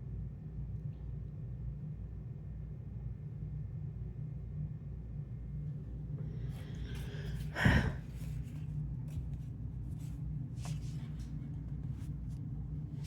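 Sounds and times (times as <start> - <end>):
steady low hum: 1.6 - 13.0.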